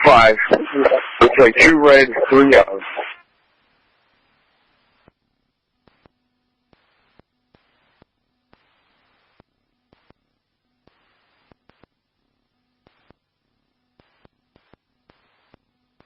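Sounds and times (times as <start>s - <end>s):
faint radio hiss: 0.0s - 16.0s.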